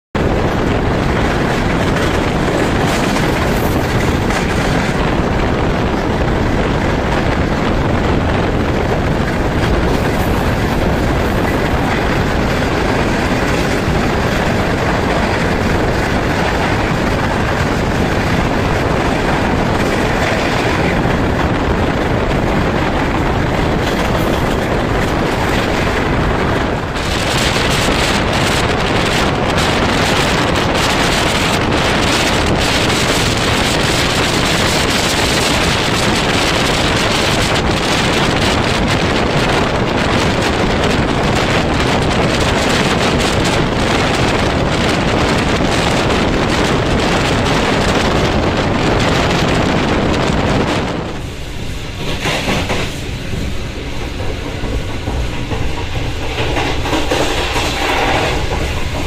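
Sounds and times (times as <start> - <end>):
train rushing at high speed: 0.0 - 59.0.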